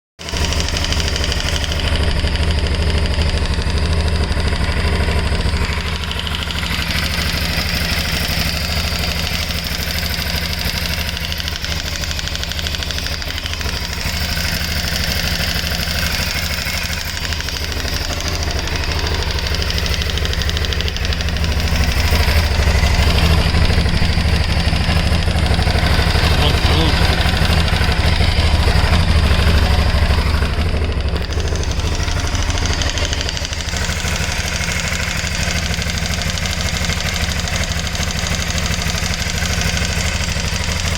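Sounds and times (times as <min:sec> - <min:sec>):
motorcycle engine idling with rattle: 0:00.2 - 0:40.9.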